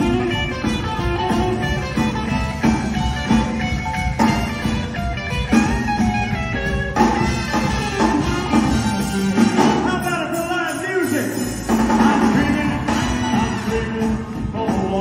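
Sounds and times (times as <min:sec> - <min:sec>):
electric guitar lead: 0:00.0 - 0:15.0
live blues band playing: 0:00.0 - 0:15.0.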